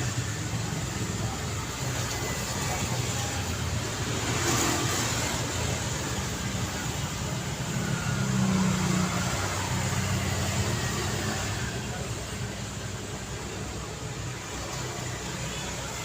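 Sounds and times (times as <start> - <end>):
passing cars: 0.0 - 16.0
vehicle engine: 0.0 - 16.0.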